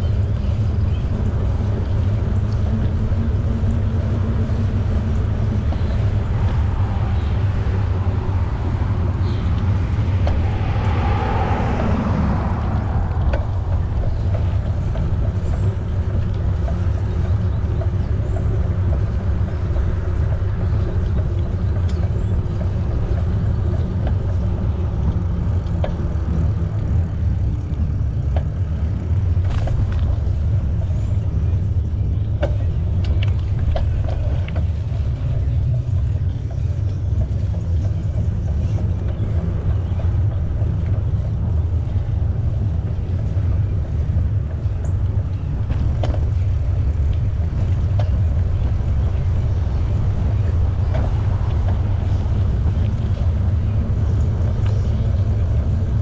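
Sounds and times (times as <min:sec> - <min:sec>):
bicycle tyres rolling: 0:00.0 - 0:56.0
wind buffeting microphone: 0:00.0 - 0:56.0.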